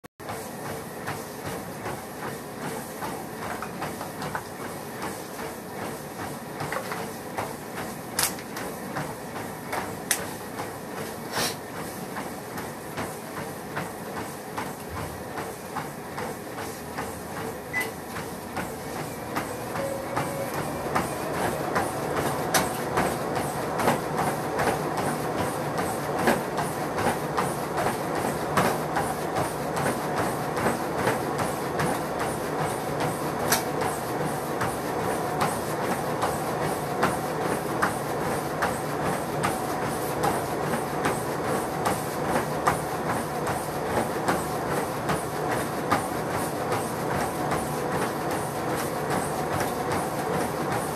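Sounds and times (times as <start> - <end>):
running footsteps on treadmill: 0.2 - 50.9
treadmill running hum: 0.2 - 50.9.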